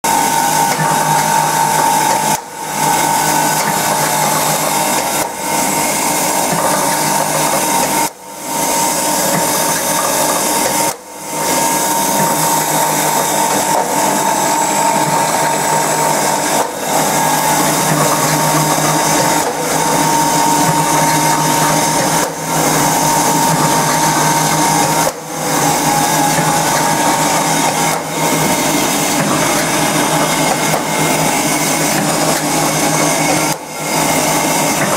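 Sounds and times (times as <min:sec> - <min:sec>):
wire mesh machine running: 0:00.0 - 0:34.9.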